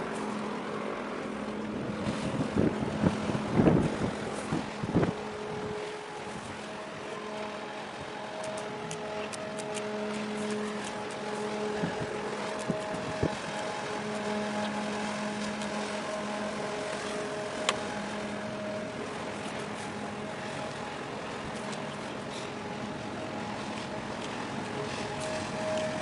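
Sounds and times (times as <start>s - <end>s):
ship machinery low hum: 0.0s - 26.0s
wind gusting on microphone: 0.7s - 26.0s.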